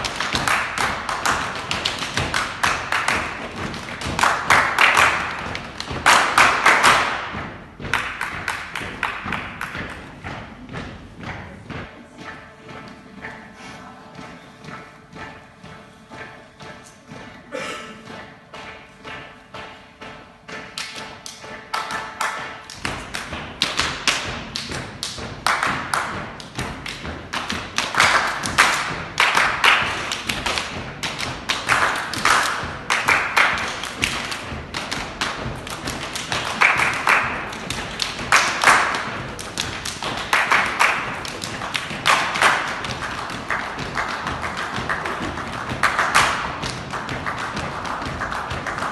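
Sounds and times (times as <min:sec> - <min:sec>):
hands clapping and slapping: 0:00.0 - 0:11.9, 0:20.6 - 0:48.9.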